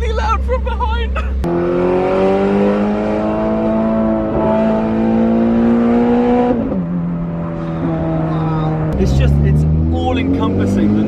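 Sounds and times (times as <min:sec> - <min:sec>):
car engine revving inside cabin: 0:01.4 - 0:11.0.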